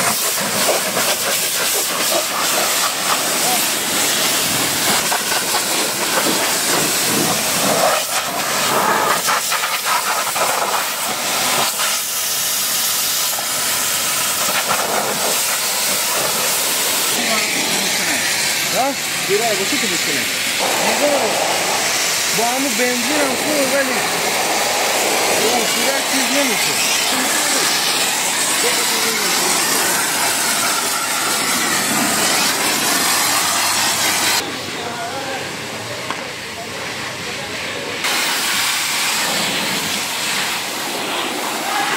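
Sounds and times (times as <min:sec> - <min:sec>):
pressure washer spraying water: 0:00.0 - 0:41.9.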